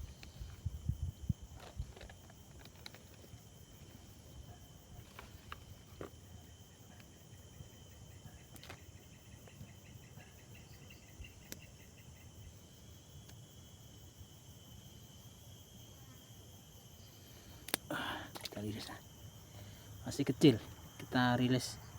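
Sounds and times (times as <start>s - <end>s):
insects chirring: 0.0s - 21.9s.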